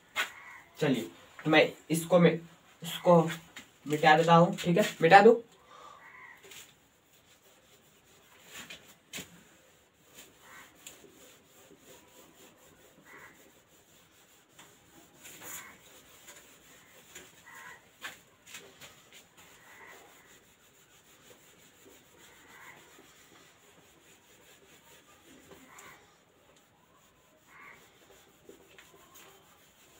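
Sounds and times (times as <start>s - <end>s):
whiteboard being wiped by hand: 0.0s - 5.4s, 6.4s - 29.9s.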